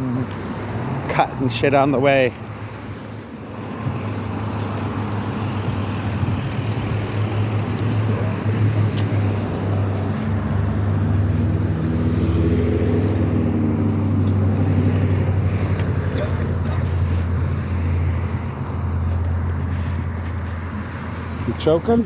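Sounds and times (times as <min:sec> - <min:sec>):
car engine and road hum: 0:00.0 - 0:22.0.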